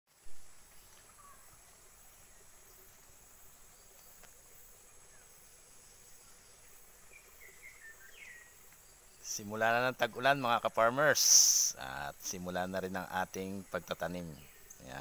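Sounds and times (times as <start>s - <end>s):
faint bird chirps: 0.1s - 15.0s
high-pitched insect drone: 0.1s - 15.0s.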